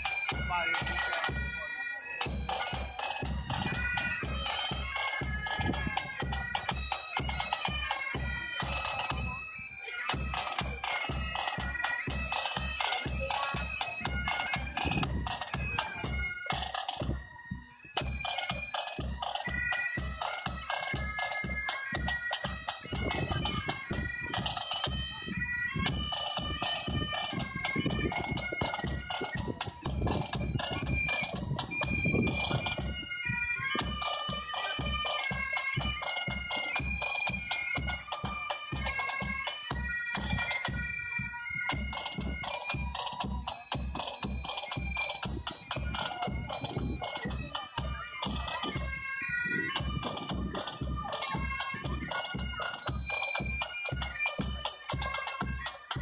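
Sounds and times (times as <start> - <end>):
bagpipes playing a tune: 0.0 - 56.0
drums beating steady rhythm: 0.0 - 56.0.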